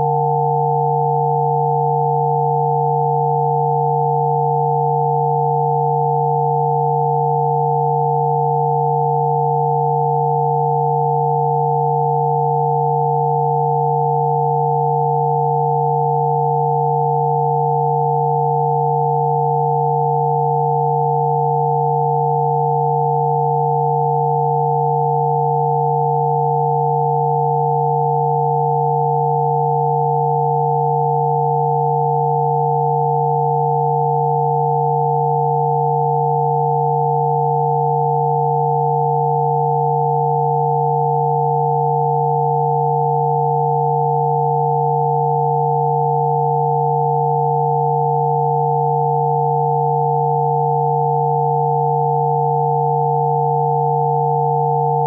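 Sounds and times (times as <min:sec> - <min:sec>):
steady high sine tones: 0:00.0 - 0:55.0.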